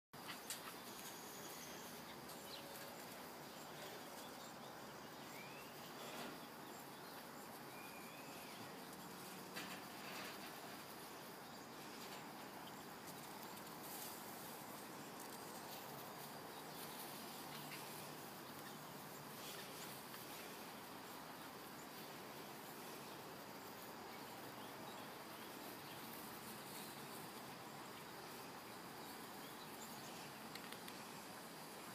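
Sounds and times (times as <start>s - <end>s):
outdoor background hiss: 0.2s - 31.9s.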